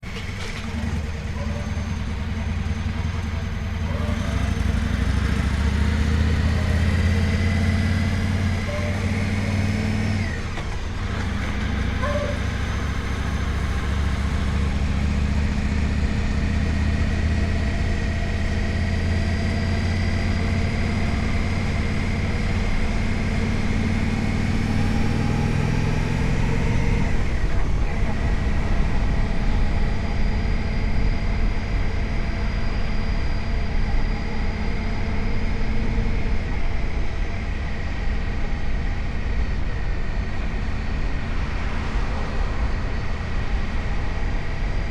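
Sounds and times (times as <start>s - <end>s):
motorcycle engine running: 0.0s - 44.9s
high-pitched whine: 0.1s - 44.9s.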